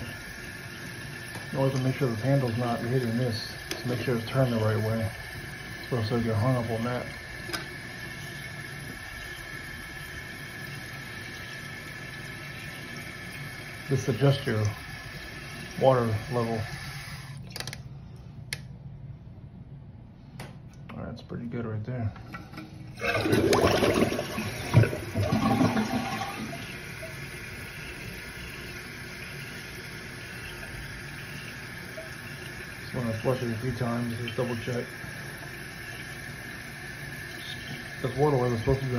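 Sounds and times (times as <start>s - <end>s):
water hissing into toilet tank: 0.0s - 17.4s, 22.3s - 38.9s.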